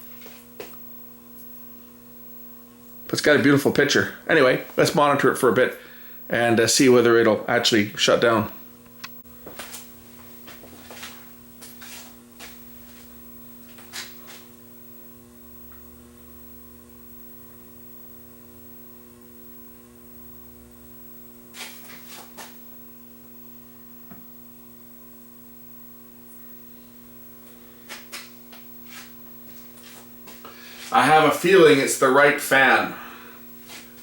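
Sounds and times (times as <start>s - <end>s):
television electrical hum: 0.0s - 34.0s.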